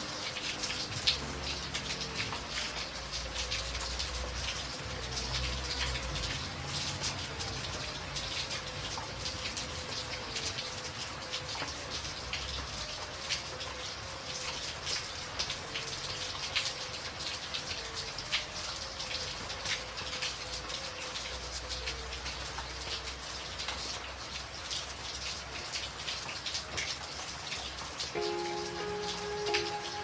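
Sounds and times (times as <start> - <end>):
rain falling: 0.0 - 30.0
raindrops hitting a surface: 0.0 - 30.0.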